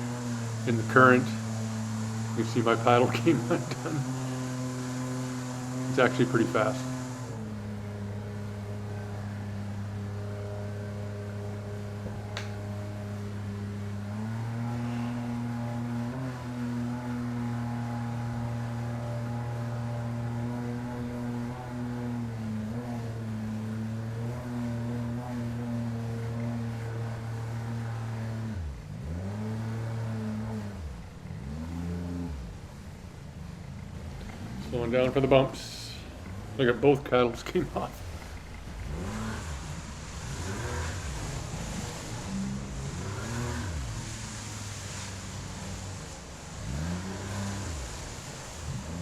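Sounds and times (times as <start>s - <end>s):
boat outboard motor running: 0.0s - 49.0s
rushing water: 0.0s - 49.0s.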